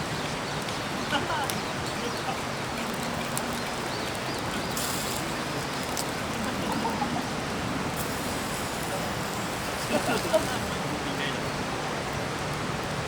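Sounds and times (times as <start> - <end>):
river flowing over stones: 0.0 - 13.0.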